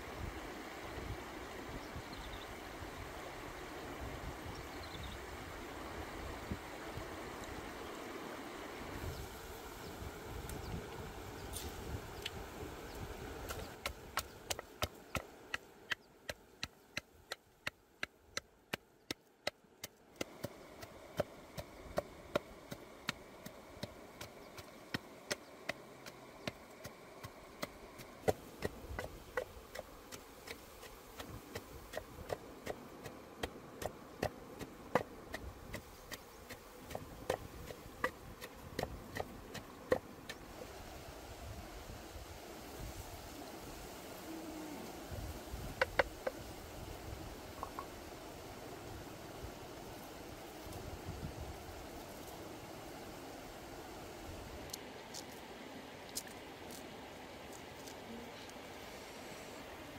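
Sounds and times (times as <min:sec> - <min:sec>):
faint background hiss: 0:00.0 - 0:59.9.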